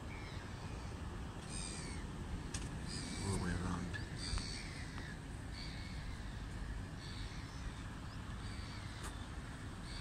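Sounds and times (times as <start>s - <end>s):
birds calling: 0.0s - 10.0s
steady low rumble: 0.0s - 10.0s.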